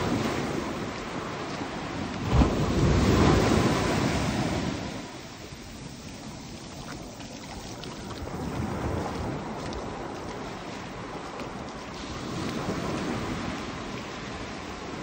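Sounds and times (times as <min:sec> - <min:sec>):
small waves washing on shore: 0:00.0 - 0:15.0
wind buffeting microphone: 0:00.0 - 0:15.0.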